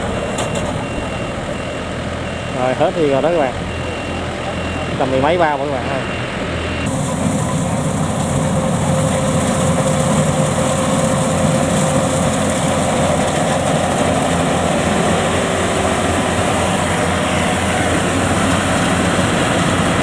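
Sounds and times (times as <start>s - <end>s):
combine harvester engine running: 0.0s - 20.0s.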